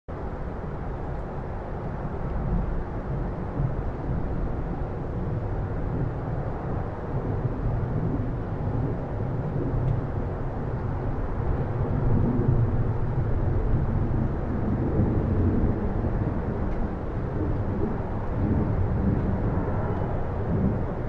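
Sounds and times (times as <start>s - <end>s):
distant traffic rumble: 0.1s - 21.0s.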